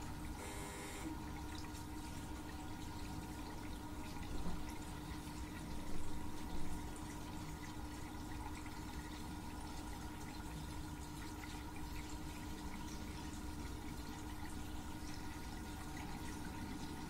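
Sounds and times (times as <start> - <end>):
water trickling and dripping: 0.0 - 0.4, 1.1 - 17.0
low pump hum: 0.0 - 17.0.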